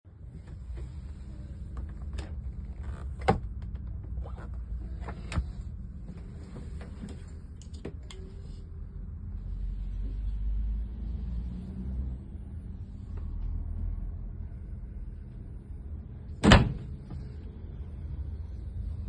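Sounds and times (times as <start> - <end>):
diesel engine rumbling: 0.1 - 19.0.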